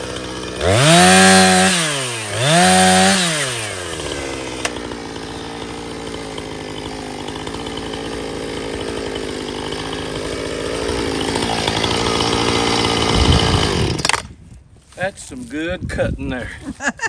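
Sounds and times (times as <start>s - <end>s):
chainsaw cutting log: 0.0s - 14.4s.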